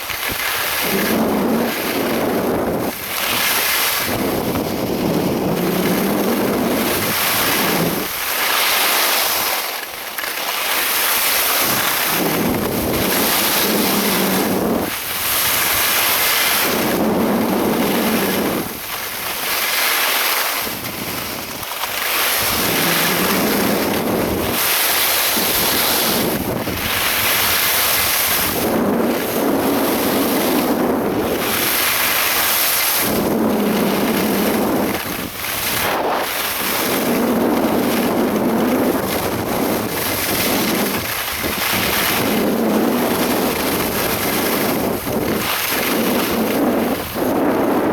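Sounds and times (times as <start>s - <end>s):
wind buffeting microphone: 0.0s - 8.3s, 11.2s - 19.6s, 20.6s - 47.9s.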